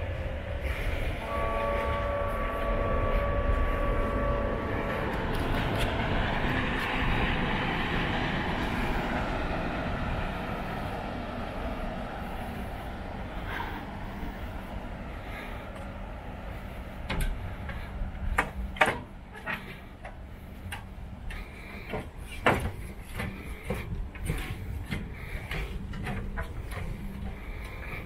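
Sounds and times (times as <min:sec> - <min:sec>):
monorail electric whine: 0:00.0 - 0:28.0
train rushing past: 0:00.0 - 0:28.0.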